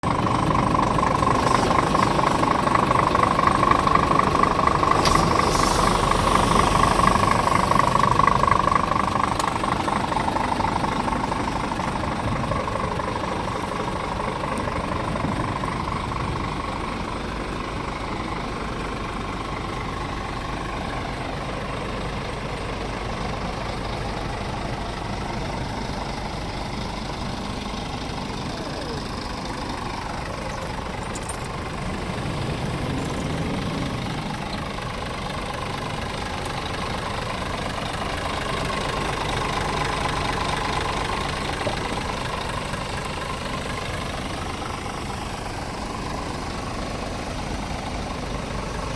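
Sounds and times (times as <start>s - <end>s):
diesel truck engine running: 0.0s - 48.9s
engine whine: 0.0s - 48.9s.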